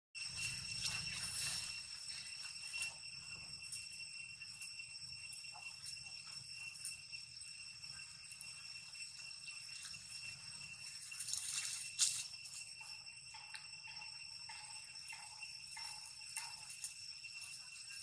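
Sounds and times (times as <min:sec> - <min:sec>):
insects droning: 0:00.2 - 0:18.0.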